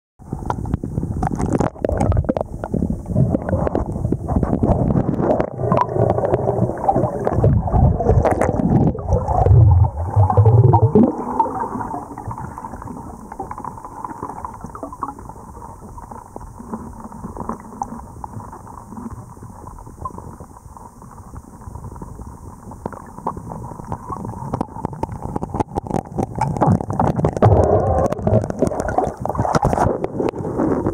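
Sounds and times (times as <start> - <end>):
muffled underwater sloshing: 0.2 - 30.9.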